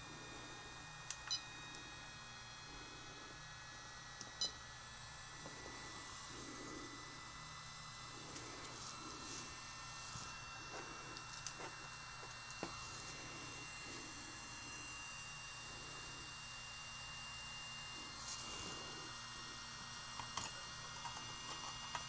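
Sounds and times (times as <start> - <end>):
electronics hum and hiss: 0.0 - 22.0.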